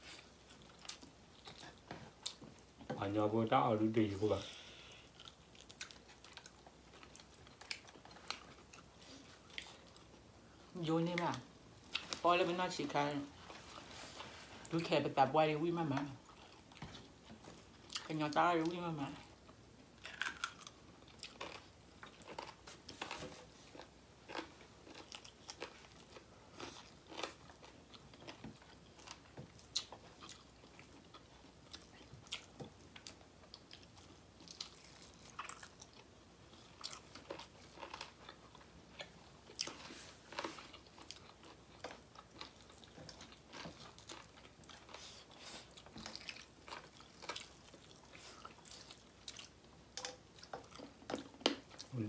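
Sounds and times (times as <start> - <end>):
people chewing crunchy food: 0.0 - 52.0.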